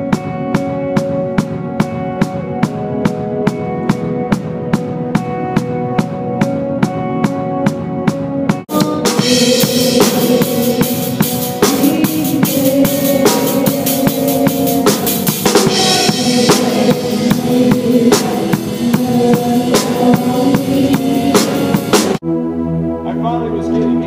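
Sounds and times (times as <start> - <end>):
drum kit kick and snare: 0.0 - 22.2
live band playing: 0.0 - 24.0.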